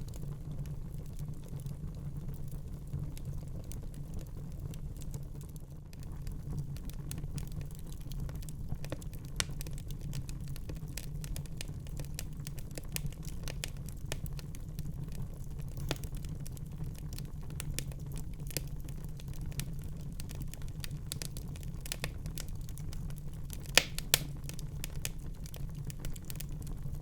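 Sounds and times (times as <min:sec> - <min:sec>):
fire crackling: 0:00.0 - 0:27.0
low rumble of flames: 0:00.0 - 0:27.0.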